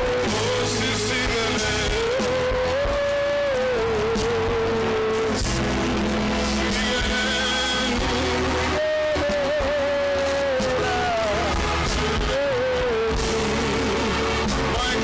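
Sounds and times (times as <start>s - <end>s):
instrumental accompaniment: 0.0s - 15.0s
voices singing worship music: 0.0s - 15.0s.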